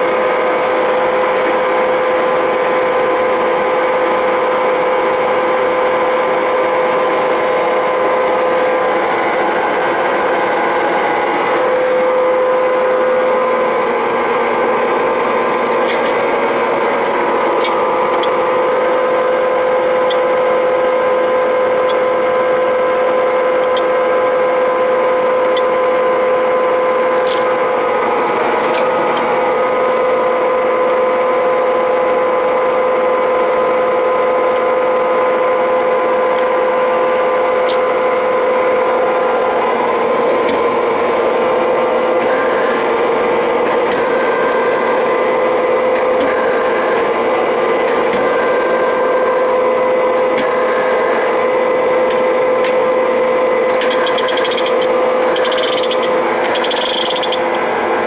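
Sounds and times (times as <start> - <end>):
lathe whining: 0.0 - 58.0.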